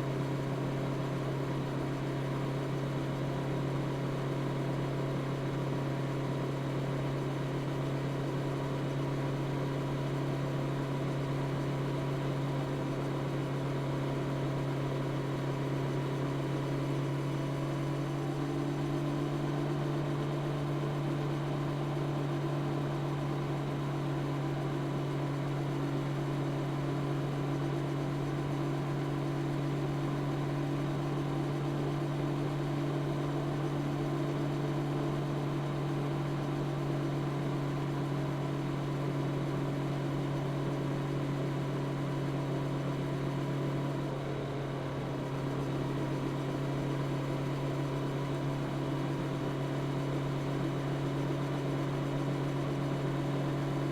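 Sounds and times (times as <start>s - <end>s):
motorcycle engine at steady revs: 0.0s - 53.9s.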